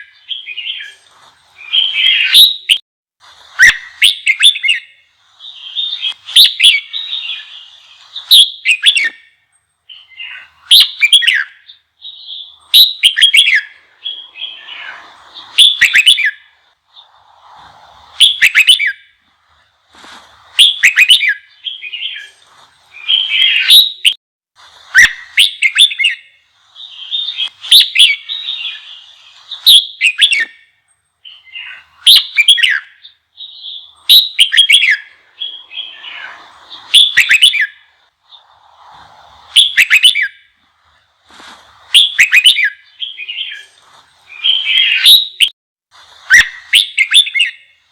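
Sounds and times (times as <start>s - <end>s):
bulbul singing: 0.0s - 2.8s, 3.6s - 17.2s, 18.0s - 24.2s, 24.9s - 38.6s, 41.8s - 45.5s, 46.3s - 47.9s.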